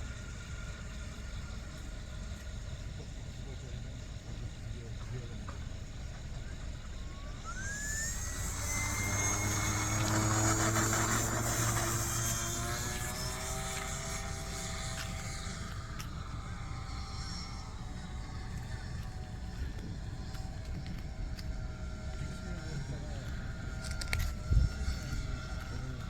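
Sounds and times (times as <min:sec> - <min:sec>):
model airplane flying past: 0:00.0 - 0:26.0.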